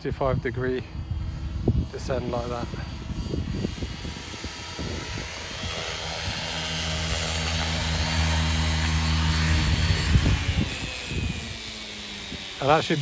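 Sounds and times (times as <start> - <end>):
electric rc helicopter rotor: 0.0 - 13.0
low rotor hum: 0.0 - 13.0.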